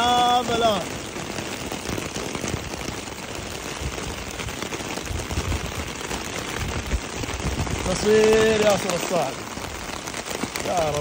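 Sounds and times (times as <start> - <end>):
rain on car roof and window: 0.0 - 11.0.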